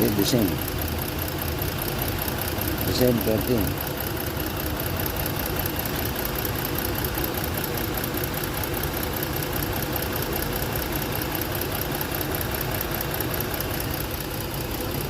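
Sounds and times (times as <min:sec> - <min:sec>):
car engine idling with misfire: 0:00.0 - 0:15.0.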